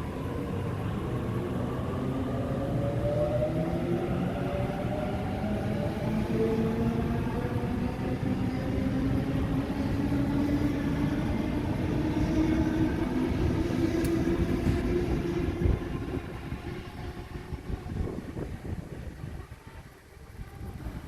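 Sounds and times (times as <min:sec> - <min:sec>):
wheels rumbling on track: 0:00.0 - 0:21.0.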